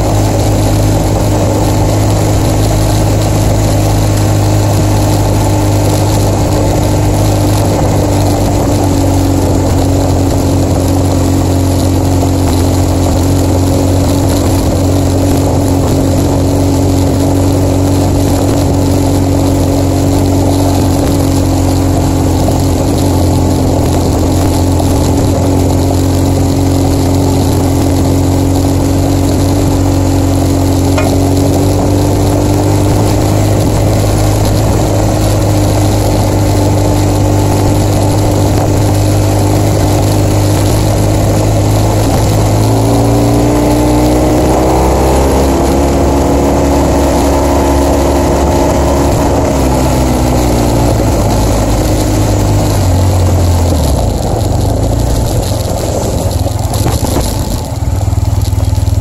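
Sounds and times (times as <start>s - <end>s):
motorcycle engine running: 0.0s - 59.0s
wind and tyres on gravel: 0.0s - 59.0s.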